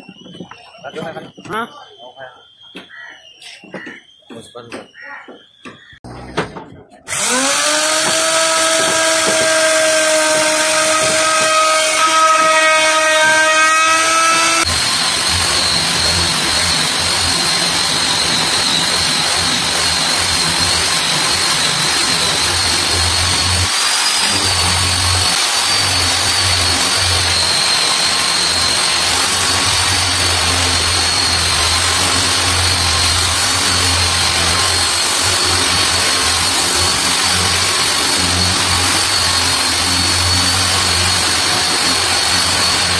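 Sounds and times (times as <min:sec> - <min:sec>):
electric router whining: 0:07.0 - 0:42.9
angle grinder sanding wood: 0:07.1 - 0:42.9.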